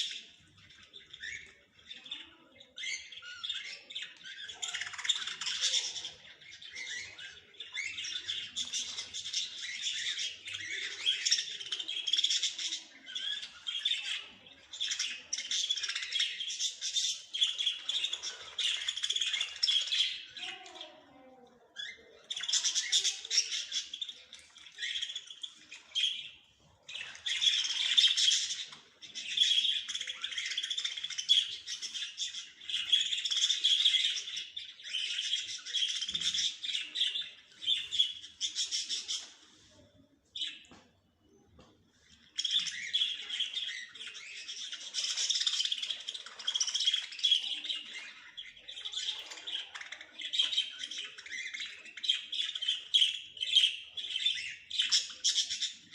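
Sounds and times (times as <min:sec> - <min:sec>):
songbirds trilling: 0:00.0 - 0:55.9.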